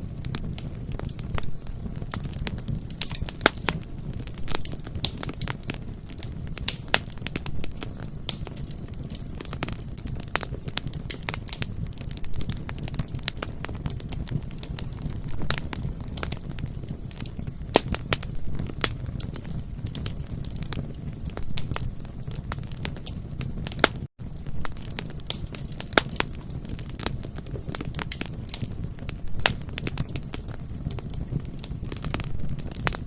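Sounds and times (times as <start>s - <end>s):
bonfire crackling and popping: 0.0s - 33.0s
low rumble of flames: 0.0s - 33.0s.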